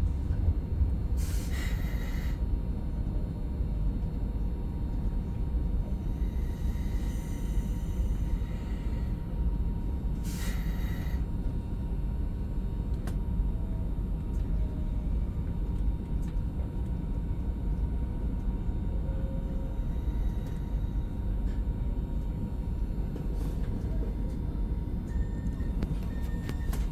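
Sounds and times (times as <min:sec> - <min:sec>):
train rumbling on track: 0:00.0 - 0:26.9.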